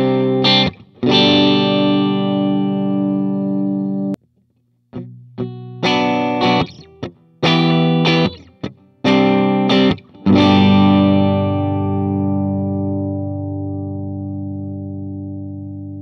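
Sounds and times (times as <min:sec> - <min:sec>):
clean electric guitar chords: 0:00.0 - 0:04.2, 0:04.9 - 0:16.0.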